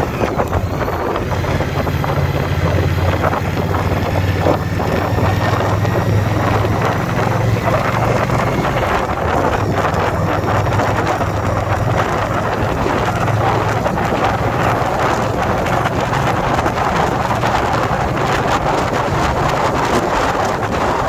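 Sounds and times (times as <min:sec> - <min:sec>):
motorcycle engine running: 0:00.0 - 0:21.0
wind buffeting on microphone: 0:00.0 - 0:21.0.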